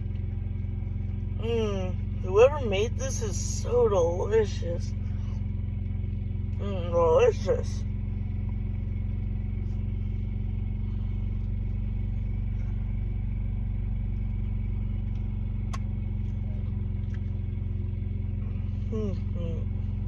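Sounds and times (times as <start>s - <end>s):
truck engine drone: 0.0s - 20.0s.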